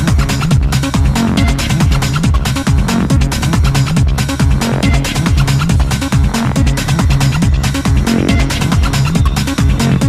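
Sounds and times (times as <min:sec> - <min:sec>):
fast techno music: 0:00.0 - 0:10.0
kick drum: 0:00.0 - 0:10.0.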